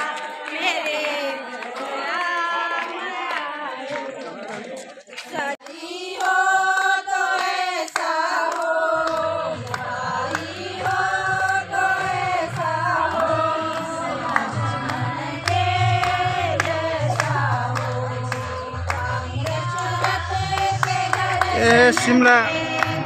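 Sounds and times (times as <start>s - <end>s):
women singing a hymn: 0.0s - 23.0s.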